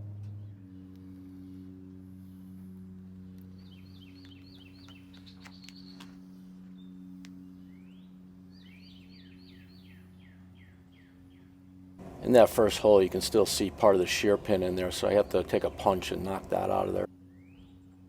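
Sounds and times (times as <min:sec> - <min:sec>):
faint low hum: 0:00.0 - 0:18.0
bird chirping: 0:03.4 - 0:18.0.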